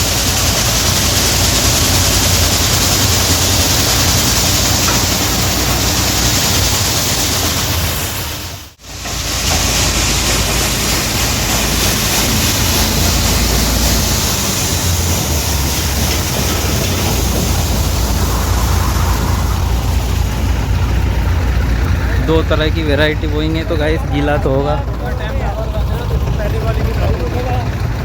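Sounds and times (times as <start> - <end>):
threshing machine running: 0.0 - 28.0.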